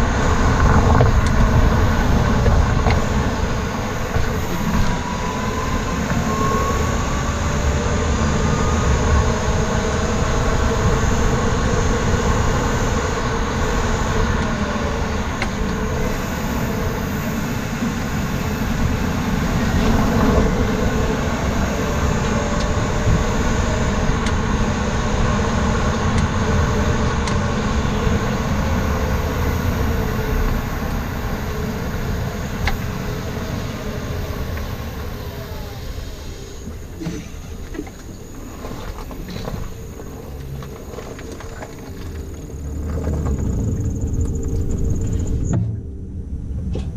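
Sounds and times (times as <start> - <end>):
tyres rumbling on road: 0.0 - 46.9
wind noise: 0.0 - 46.9.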